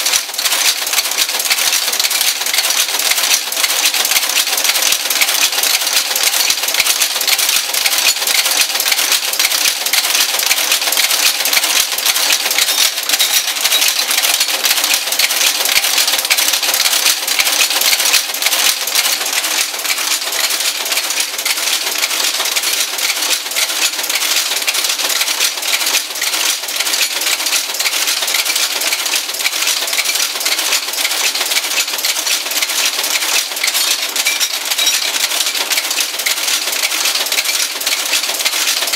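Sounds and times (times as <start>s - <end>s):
type casting machine clattering: 0.0s - 38.9s.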